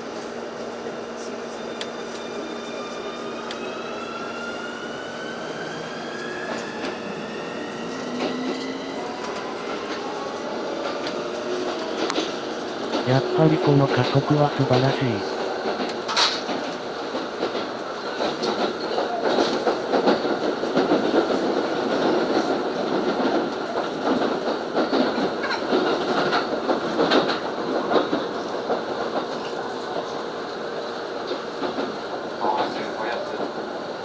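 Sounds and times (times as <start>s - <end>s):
train running rumble: 0.0s - 34.0s.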